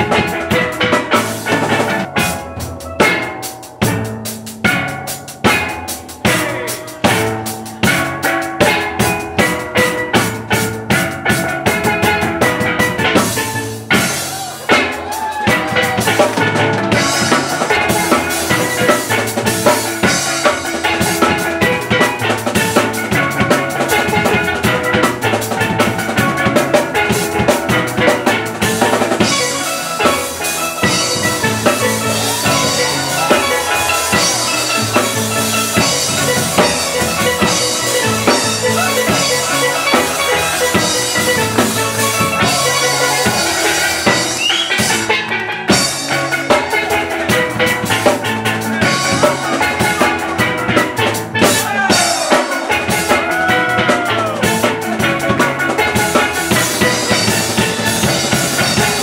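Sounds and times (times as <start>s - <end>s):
drum kit beat: 0.0s - 59.0s
steel pans playing: 0.0s - 59.0s.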